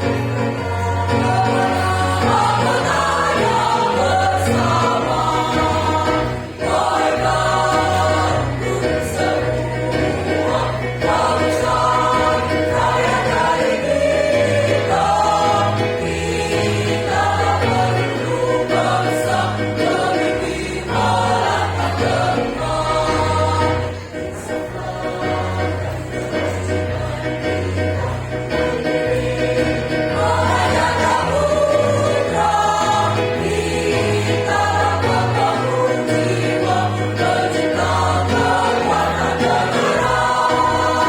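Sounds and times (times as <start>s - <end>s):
choir singing in parts: 0.0s - 41.0s.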